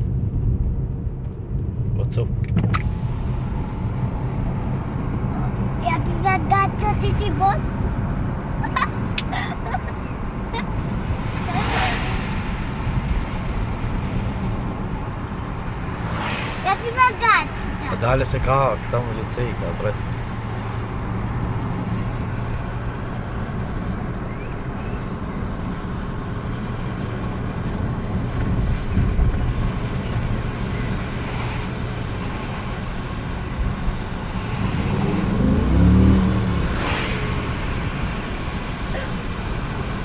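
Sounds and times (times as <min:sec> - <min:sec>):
car engine running while driving: 0:00.0 - 0:40.0.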